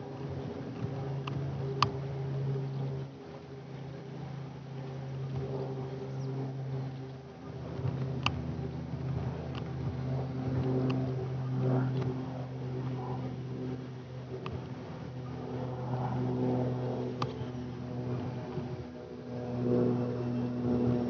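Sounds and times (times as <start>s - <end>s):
light aircraft engine droning overhead: 0.0s - 21.0s.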